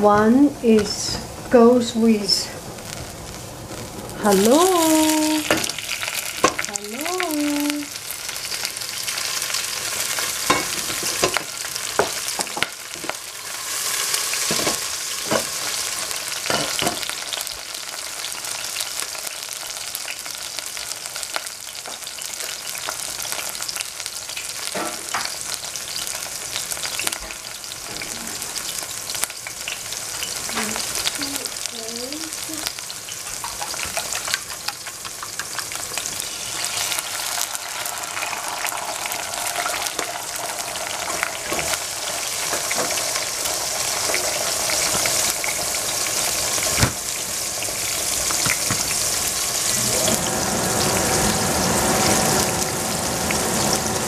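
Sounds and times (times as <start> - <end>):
onions sizzling in oil: 0.1 - 54.0.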